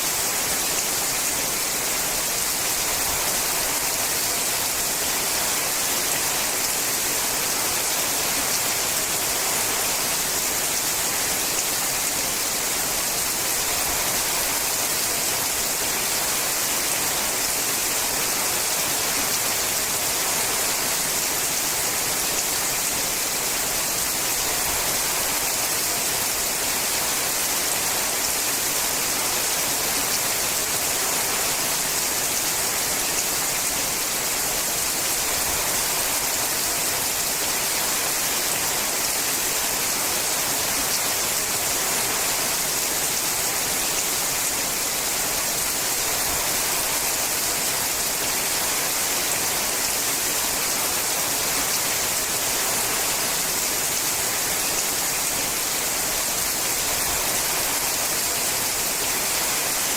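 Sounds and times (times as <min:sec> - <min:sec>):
rain on a metal roof: 0:00.0 - 0:59.9.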